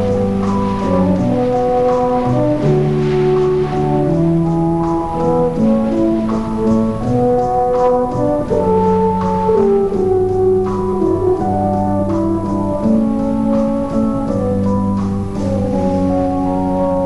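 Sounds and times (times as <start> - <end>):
slow instrumental chords: 0.0 - 17.0.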